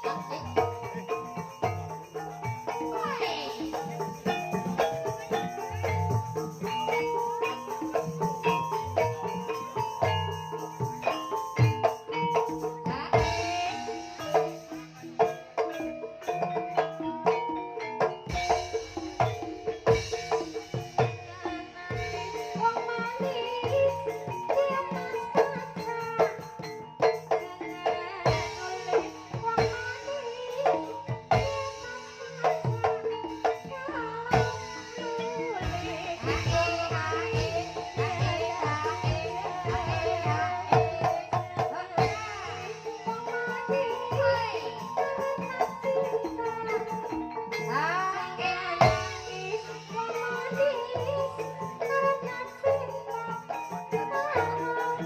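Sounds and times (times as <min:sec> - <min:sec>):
hand drum strokes: 0:00.0 - 0:55.0
pitched mallet percussion: 0:00.0 - 0:55.0.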